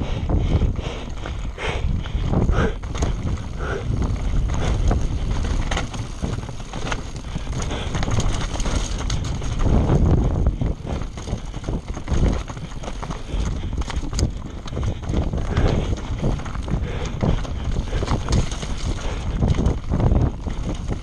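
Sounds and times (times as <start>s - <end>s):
wind rushing over microphone: 0.0s - 21.0s
tyres on dirt and stones: 0.7s - 21.0s
bike clattering over rocks: 2.2s - 21.0s.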